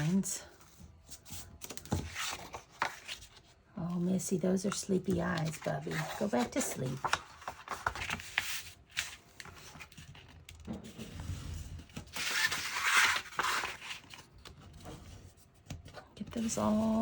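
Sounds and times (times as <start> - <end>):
paper rustling and rubbing: 0.0 - 3.6, 4.6 - 17.0.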